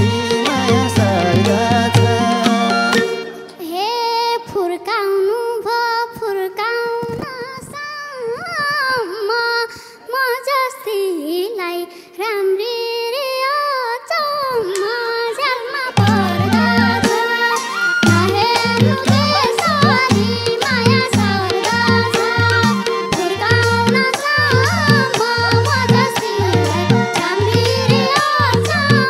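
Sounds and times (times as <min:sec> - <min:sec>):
girl singing folk melody: 0:03.6 - 0:17.2, 0:18.0 - 0:29.0.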